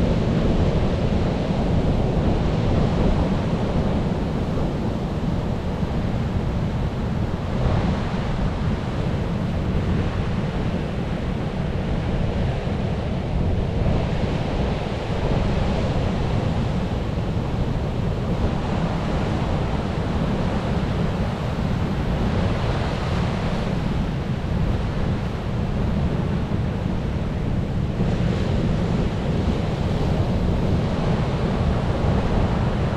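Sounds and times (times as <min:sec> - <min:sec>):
constant low rumble: 0:00.0 - 0:32.9
ocean waves washing onto shore: 0:00.0 - 0:32.9.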